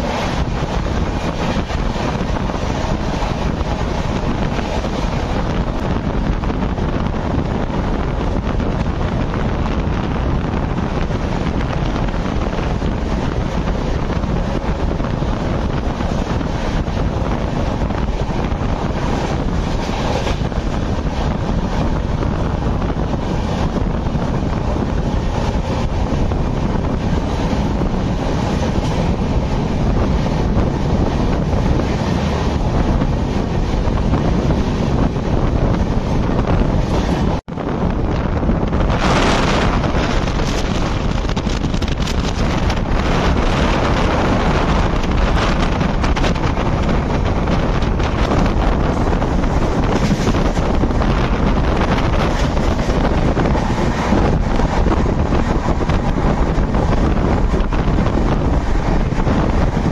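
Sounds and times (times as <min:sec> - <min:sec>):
train rushing on track: 0:00.0 - 0:59.9
trains passing close by: 0:00.0 - 0:59.9
wind buffeting microphone: 0:00.0 - 0:59.9.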